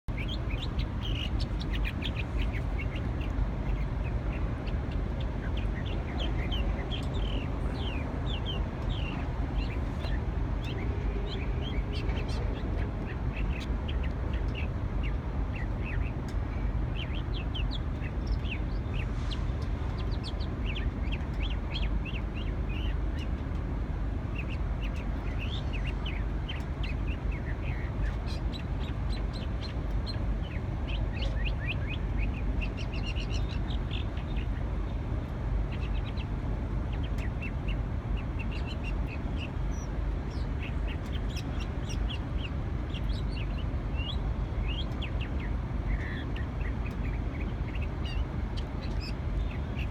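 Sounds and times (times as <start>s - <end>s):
songbird chirping: 0.0s - 49.9s
steady low rumble: 0.0s - 49.9s.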